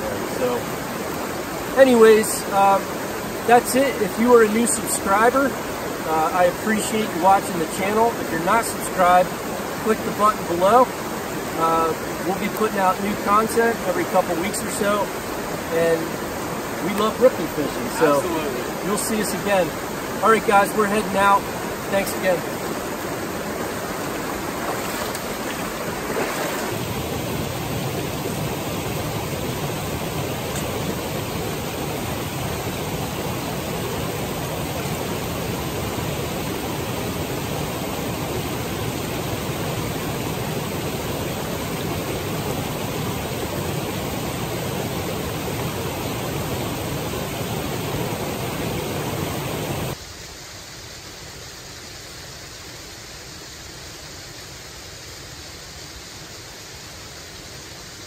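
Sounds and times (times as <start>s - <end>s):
stream rushing over cascades: 0.0s - 58.0s.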